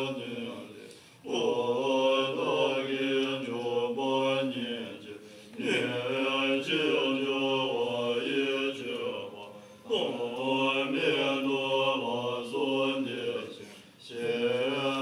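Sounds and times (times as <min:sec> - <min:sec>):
monks chanting in unison: 0:00.0 - 0:15.0.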